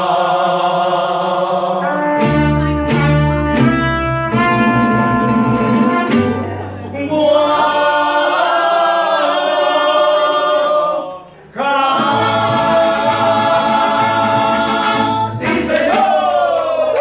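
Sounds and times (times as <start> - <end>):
mariachi band singing and playing: 0.0 - 17.0.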